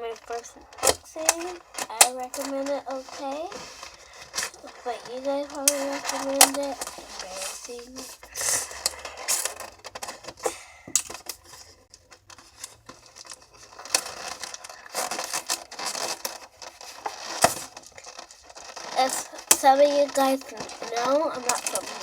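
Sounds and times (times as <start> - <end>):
packaging rustling and scraping: 0.0 - 22.0.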